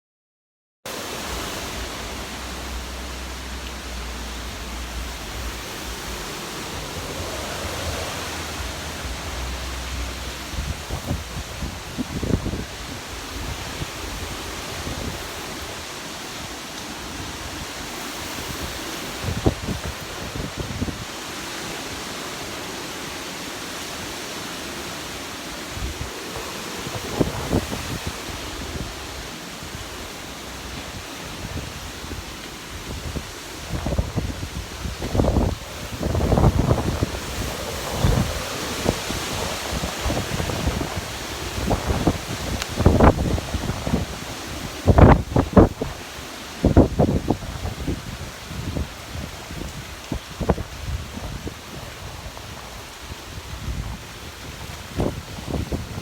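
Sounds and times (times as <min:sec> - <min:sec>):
hurricane wind rushing: 0:00.9 - 0:56.0
wind gusts buffeting microphone: 0:00.9 - 0:56.0.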